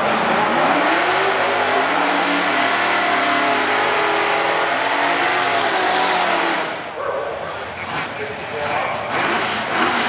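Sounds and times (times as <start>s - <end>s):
engine revving high: 0.0s - 10.0s.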